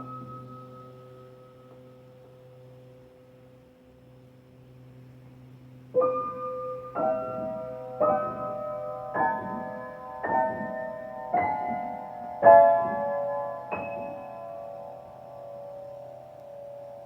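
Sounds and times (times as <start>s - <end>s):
piano-like keyboard chords: 0.0s - 3.6s, 5.9s - 17.0s.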